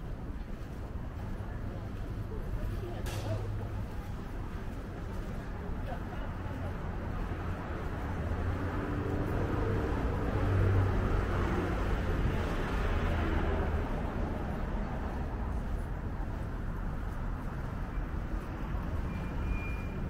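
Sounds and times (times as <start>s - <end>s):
street noise: 0.0s - 20.0s
vehicle engine and tyre rumble: 0.0s - 20.0s.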